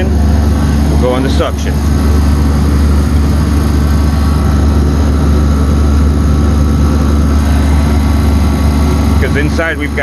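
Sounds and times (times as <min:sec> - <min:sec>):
refrigeration unit humming: 0:00.0 - 0:10.0.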